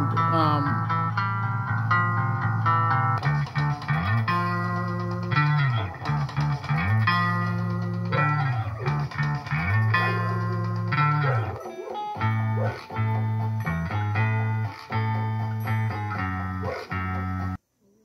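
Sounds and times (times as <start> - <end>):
sliding bass line: 0.0 - 11.6, 12.2 - 17.6
loud music through a woofer: 0.0 - 17.5.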